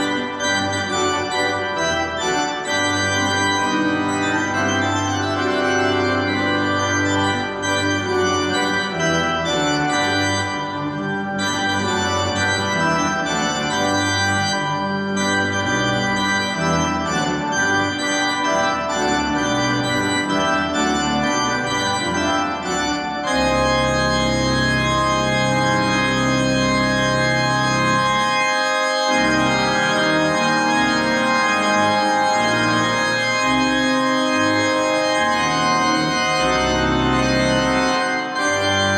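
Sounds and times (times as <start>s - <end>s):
church organ chords: 0.0s - 38.9s.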